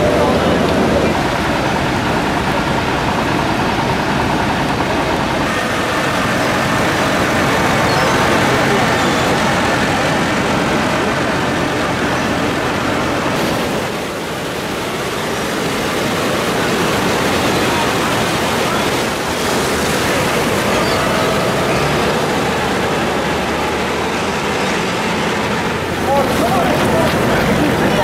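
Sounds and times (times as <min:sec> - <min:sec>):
ocean surf breaking: 0:00.0 - 0:28.0
tractor engine: 0:00.0 - 0:28.0.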